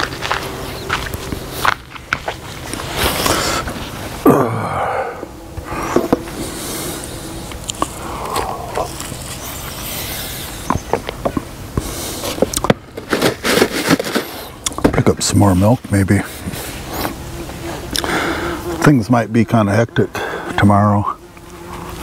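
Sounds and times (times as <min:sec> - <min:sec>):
steady hiss: 0:02.3 - 0:22.0.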